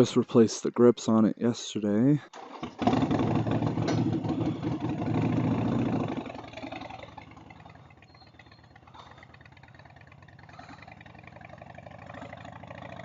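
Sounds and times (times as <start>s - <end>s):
motorcycle engine idling: 2.4s - 13.0s.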